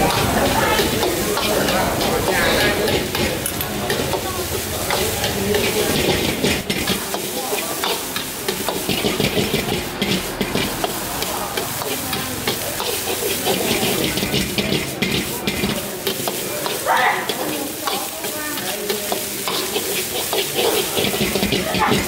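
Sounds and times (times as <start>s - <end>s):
metal ladle scraping a wok: 0.0s - 22.0s
rice sizzling in a wok: 0.0s - 22.0s.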